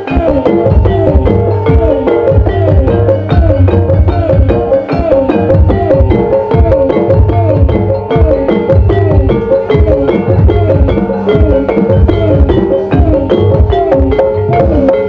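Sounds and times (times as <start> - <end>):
bending melody line: 0.0 - 15.0
hand drums beating: 0.0 - 15.0
struck pitched percussion: 0.0 - 15.0.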